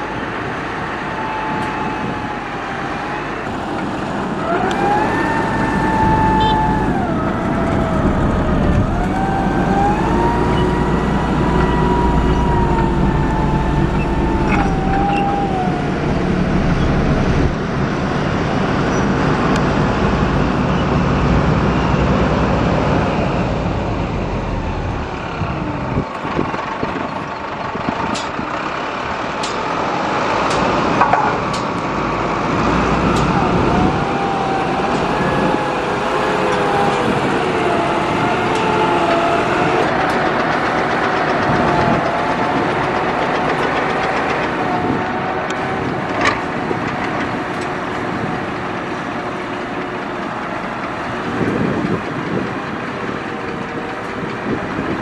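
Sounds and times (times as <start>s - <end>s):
diesel engines rumbling: 0.0s - 55.0s
engine whine: 0.0s - 55.0s.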